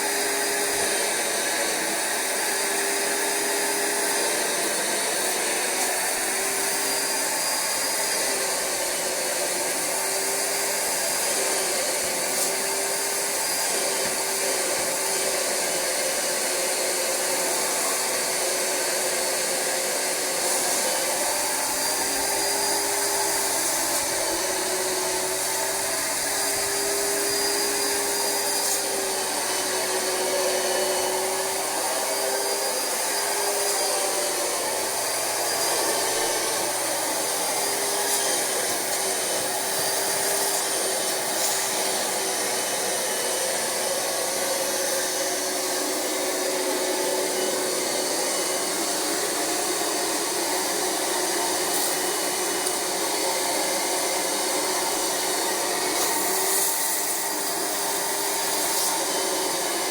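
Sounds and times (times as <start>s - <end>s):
carpet cleaner vacuum whining: 0.0s - 59.9s.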